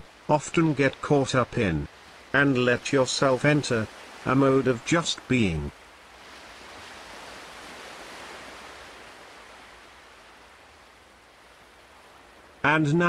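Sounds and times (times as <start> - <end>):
ocean wave surging and washing: 0.0 - 13.0.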